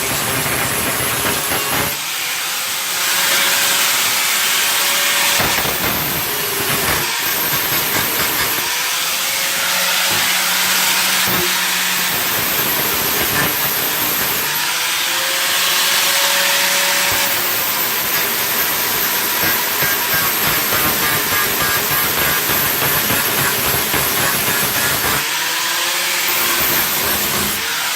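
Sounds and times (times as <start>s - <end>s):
power tool hissing on sheet metal: 0.0s - 27.9s.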